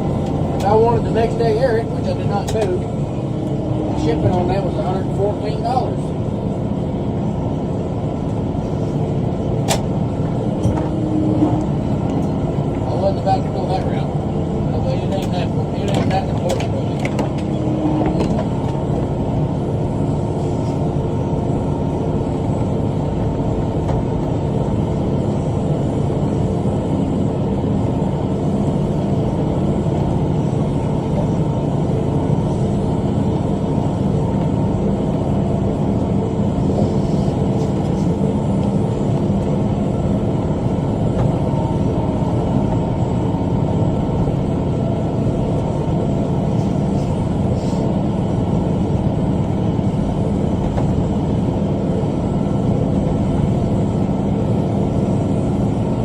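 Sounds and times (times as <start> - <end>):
tractor diesel engine rumbling: 0.0 - 56.0.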